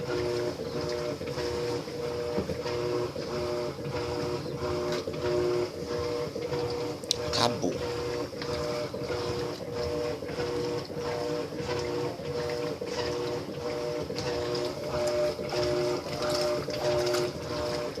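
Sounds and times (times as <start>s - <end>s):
washing machine motor pulsing hum: 0.0s - 18.0s
water and clothes churning: 0.0s - 18.0s.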